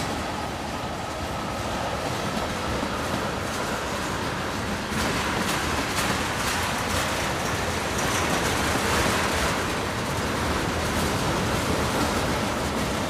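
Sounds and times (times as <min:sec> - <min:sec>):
steel train wheels on rails: 0:00.0 - 0:13.0.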